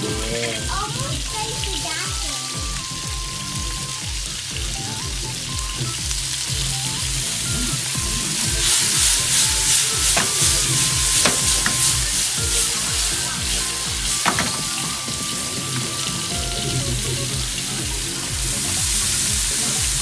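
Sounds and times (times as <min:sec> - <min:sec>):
vegetables sizzling in a frying pan: 0:00.0 - 0:20.0.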